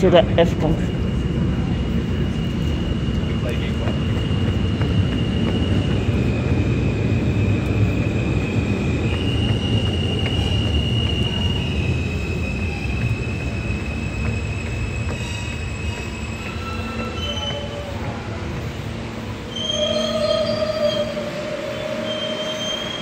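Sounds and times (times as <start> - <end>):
subway train rumble: 0.0 - 23.0
steel wheels squealing: 0.6 - 23.0.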